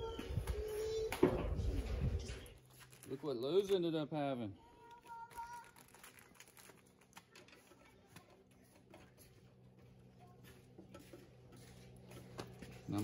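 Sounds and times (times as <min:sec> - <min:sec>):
plastic handling sounds: 0:01.2 - 0:04.1, 0:04.7 - 0:13.0.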